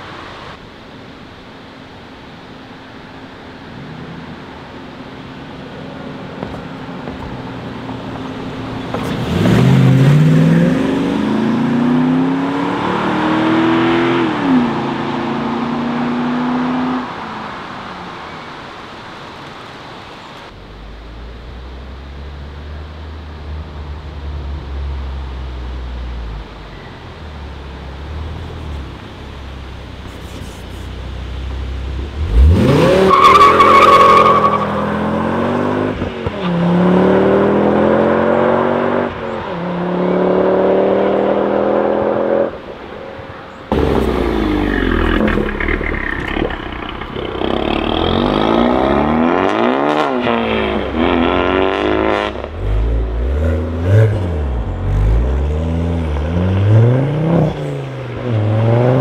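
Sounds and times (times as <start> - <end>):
car engine accelerating hard: 5.9 - 17.2, 21.3 - 59.0
car engine revving: 6.0 - 17.6, 20.5 - 59.0.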